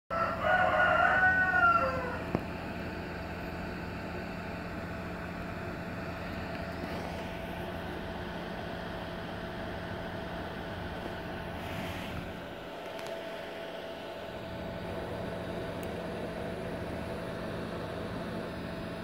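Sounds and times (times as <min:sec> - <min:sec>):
steady low hum: 0:00.1 - 0:19.0.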